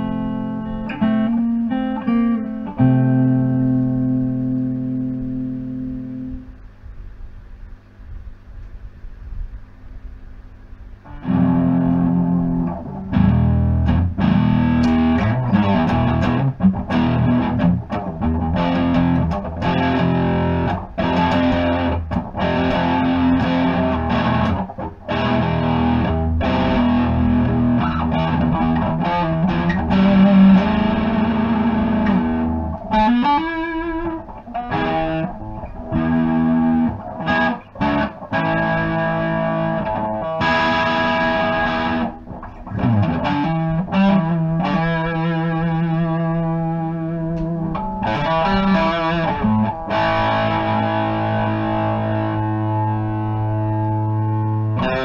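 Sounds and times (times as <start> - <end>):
guitar note bent upward: 0.0 - 6.6, 11.0 - 55.0
electric guitar chords and riffs: 0.0 - 6.7, 11.0 - 55.0.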